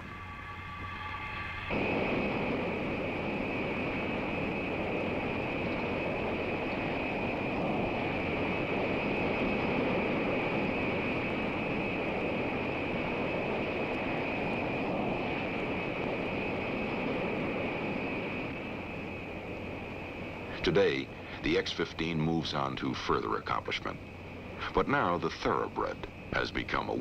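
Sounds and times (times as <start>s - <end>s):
high-pitched engine whine: 0.0s - 27.0s
jet engines running: 0.0s - 27.0s.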